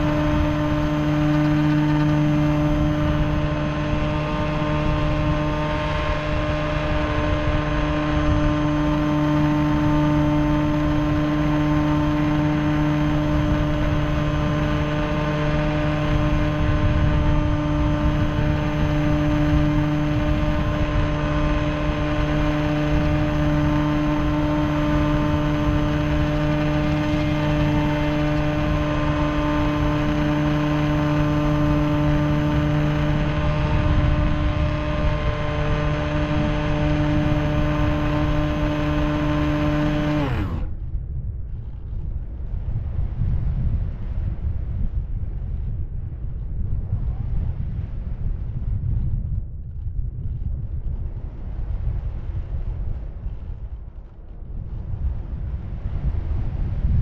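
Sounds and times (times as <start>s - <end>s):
model plane motor and propeller: 0.0s - 57.0s
wind rushing over microphone: 0.0s - 57.0s.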